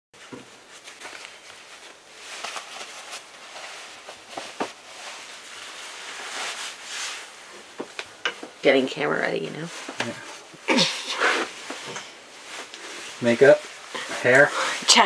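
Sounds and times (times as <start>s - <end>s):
clothing rustling: 0.2s - 15.0s.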